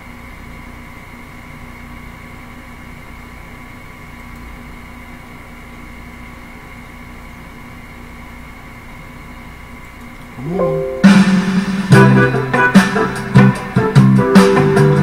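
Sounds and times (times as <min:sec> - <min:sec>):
machine-like room hum and hiss: 0:00.0 - 0:15.0.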